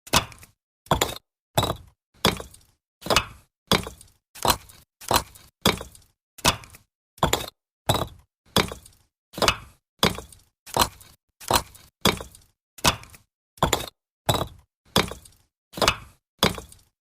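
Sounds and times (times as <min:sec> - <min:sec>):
bricks clacking: 0:00.1 - 0:16.9.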